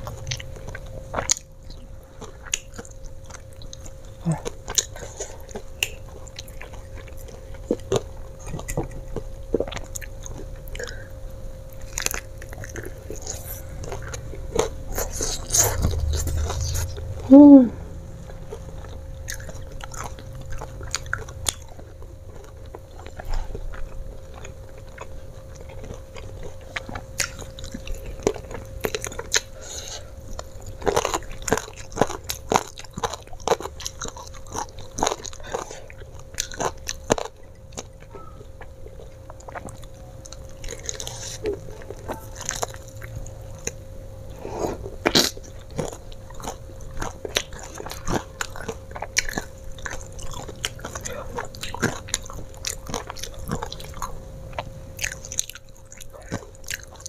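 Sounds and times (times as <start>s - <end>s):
chewing and crunching fried chicken: 0.0s - 57.0s.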